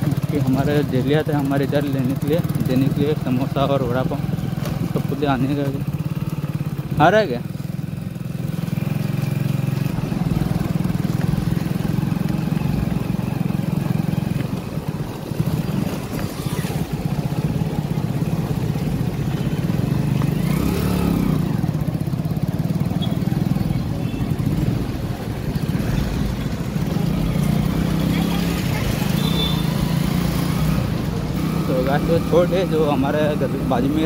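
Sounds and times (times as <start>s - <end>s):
city traffic: 0.0s - 34.0s
motorcycle engine running: 0.0s - 34.0s.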